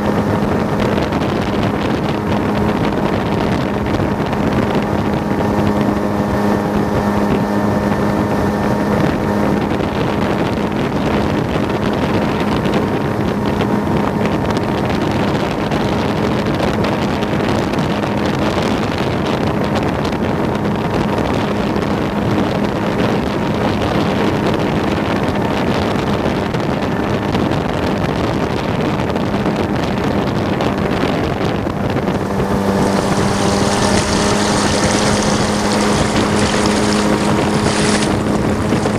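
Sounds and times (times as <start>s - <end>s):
boat motor running: 0.0s - 38.9s
wind and water rushing: 0.0s - 38.9s.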